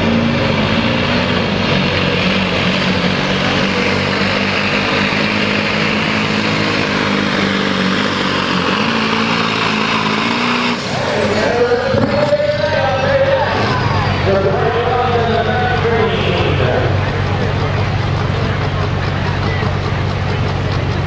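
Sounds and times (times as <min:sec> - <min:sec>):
truck engine at full throttle: 0:00.0 - 0:21.0.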